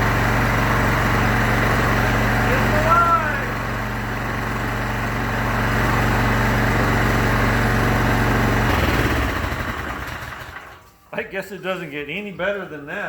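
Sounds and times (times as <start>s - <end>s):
gas engine running steadily: 0.0s - 10.8s.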